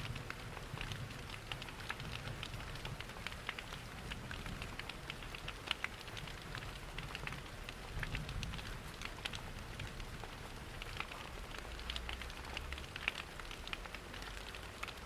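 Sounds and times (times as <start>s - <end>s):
fireplace crackling and popping: 0.0s - 15.0s
steady rain: 0.0s - 15.0s.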